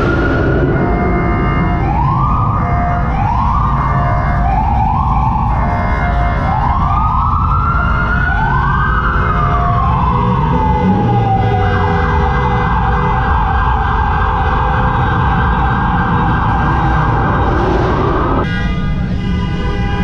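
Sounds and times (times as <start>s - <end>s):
heavy low rumble: 0.0s - 19.6s
police siren: 0.0s - 20.0s.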